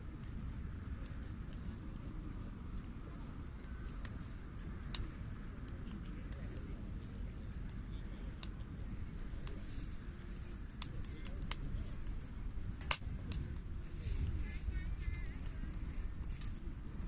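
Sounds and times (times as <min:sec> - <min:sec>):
bonfire rumble: 0:00.0 - 0:17.0
fire crackling and popping: 0:00.0 - 0:17.0.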